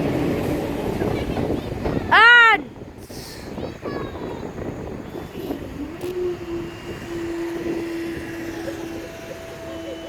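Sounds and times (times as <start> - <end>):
diesel train whine: 0.0 - 10.0.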